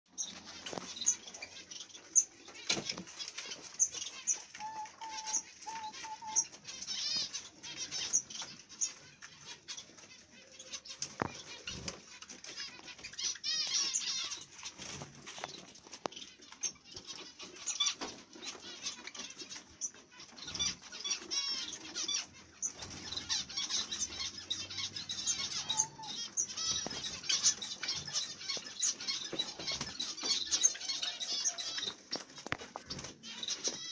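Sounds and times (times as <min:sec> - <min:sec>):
sparrows chirping and trilling: 0:00.1 - 0:33.9.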